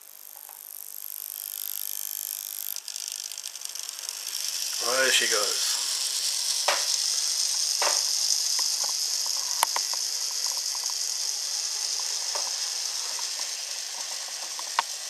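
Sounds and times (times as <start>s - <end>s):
model trolley motor hiss: 0.0s - 15.0s.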